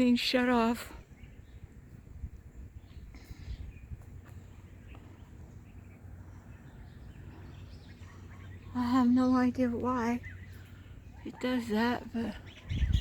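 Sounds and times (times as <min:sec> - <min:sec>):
faint bird chirps: 0:00.6 - 0:13.0.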